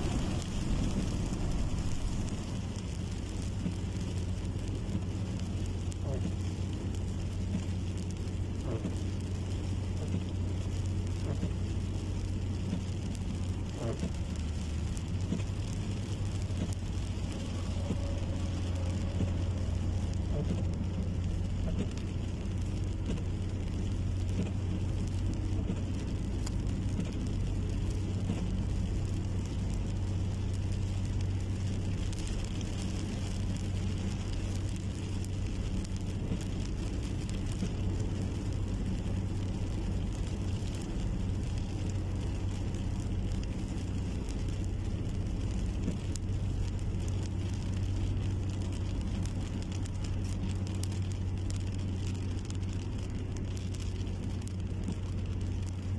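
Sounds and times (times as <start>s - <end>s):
continuous low rumble: 0.0s - 55.9s
steady rain patter: 0.0s - 55.9s.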